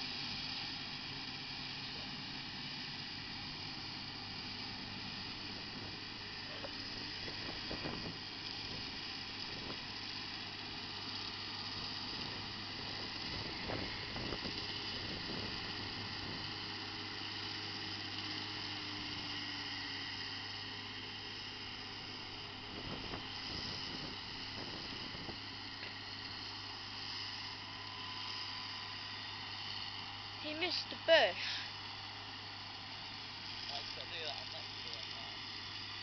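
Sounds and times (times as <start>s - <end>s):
mower whirring: 0.0s - 36.0s
tractor engine hum: 0.0s - 36.0s.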